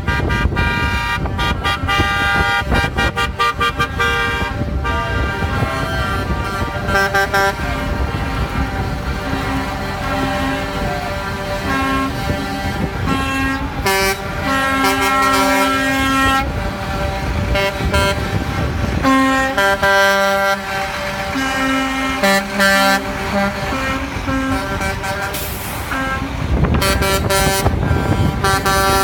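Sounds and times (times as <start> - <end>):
diesel trucks rolling past: 0.0 - 29.0
truck horns blasting: 0.0 - 29.0.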